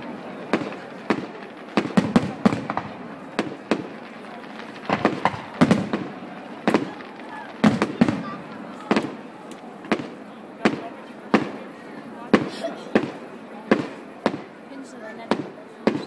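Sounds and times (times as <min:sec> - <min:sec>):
fireworks crackle: 0:00.0 - 0:16.0.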